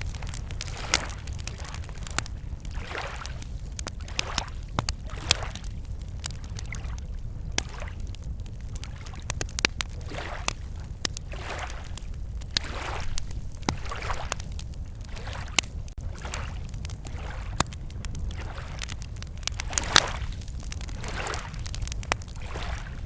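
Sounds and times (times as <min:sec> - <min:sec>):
campfire crackling and popping: 0:00.0 - 0:23.0
small waves lapping: 0:00.0 - 0:23.0.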